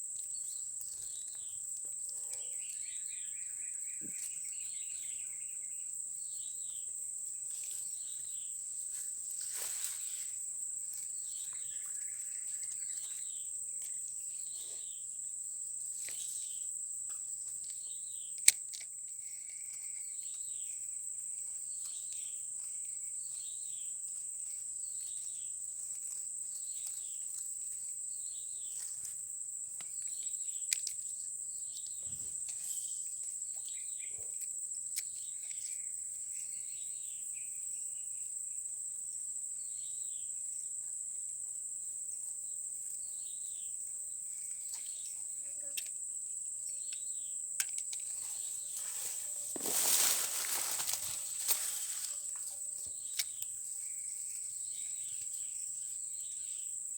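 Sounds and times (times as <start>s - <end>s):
insects droning: 0.0s - 56.9s.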